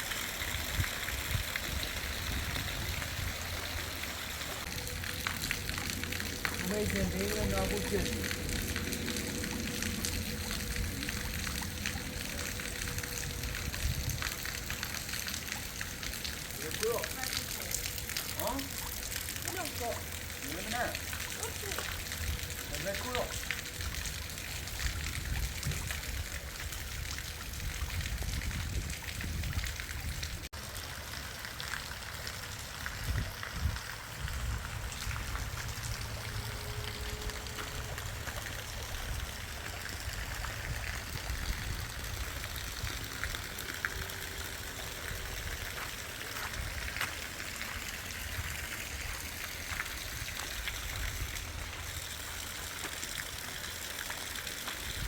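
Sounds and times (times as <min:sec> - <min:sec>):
heavy rain: 0:00.0 - 0:55.0
water running and trickling: 0:00.0 - 0:55.0.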